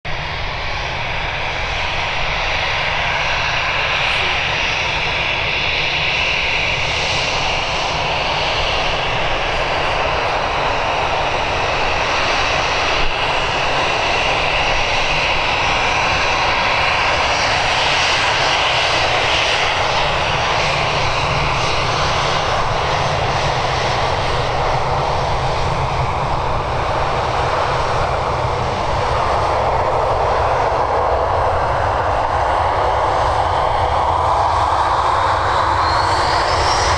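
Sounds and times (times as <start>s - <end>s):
jet engines taxiing: 0.1s - 36.9s.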